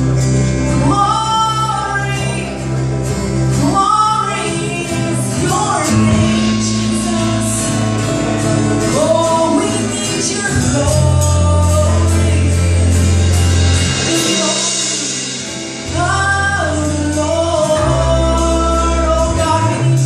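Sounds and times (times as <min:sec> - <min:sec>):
band of guitars and bass: 0:00.0 - 0:20.0
woman singing gospel lead: 0:00.7 - 0:02.8, 0:03.5 - 0:20.0.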